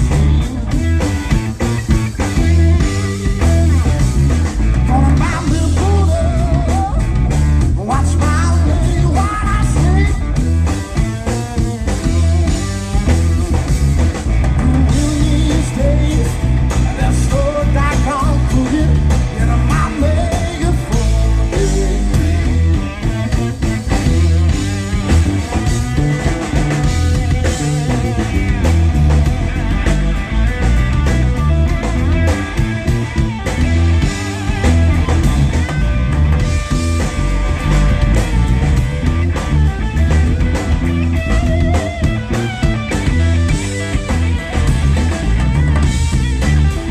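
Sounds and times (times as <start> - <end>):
bass guitar: 0.0 - 46.9
drum kit: 0.0 - 46.9
electric guitar lead: 0.0 - 46.9.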